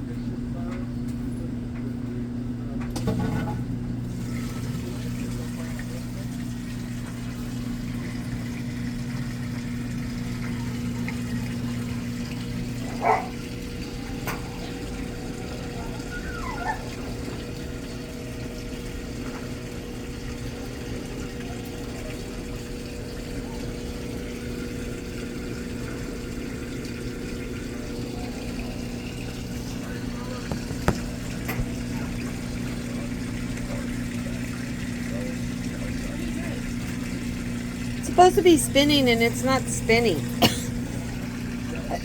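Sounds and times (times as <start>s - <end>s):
drain pump humming: 0.0s - 42.0s.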